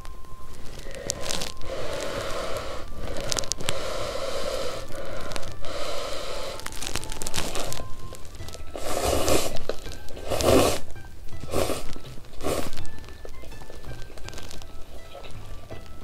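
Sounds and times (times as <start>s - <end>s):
noodles being slurped: 0.6s - 15.6s.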